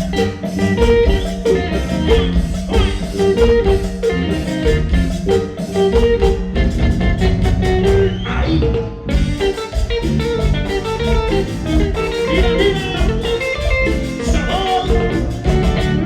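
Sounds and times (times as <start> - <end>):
drum kit beat: 0.0 - 8.2, 9.0 - 16.0
bass: 0.0 - 16.0
guitar melody: 0.0 - 16.0.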